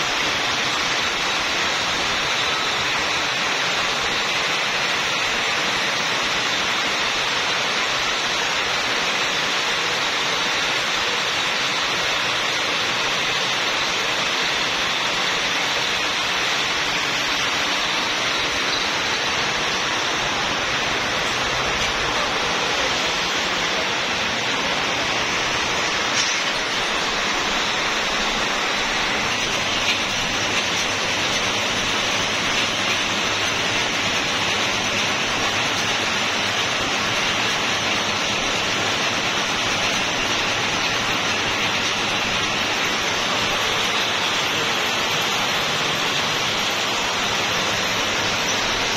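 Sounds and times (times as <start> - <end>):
winding machines whirring: 0.1 - 48.9.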